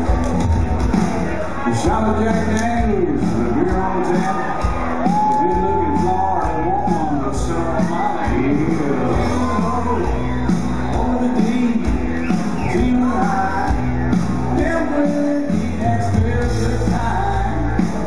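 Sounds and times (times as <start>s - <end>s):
bass line: 0.0s - 18.0s
singing voice: 1.2s - 18.0s.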